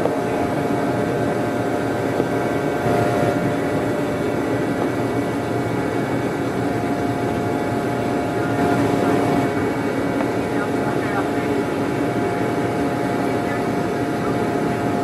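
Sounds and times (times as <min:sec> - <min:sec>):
ship engine drone: 0:00.0 - 0:15.0.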